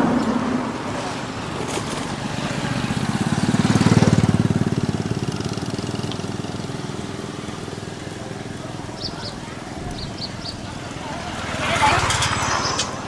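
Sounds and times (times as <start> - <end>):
motorbike engine passing: 0.0 - 13.0.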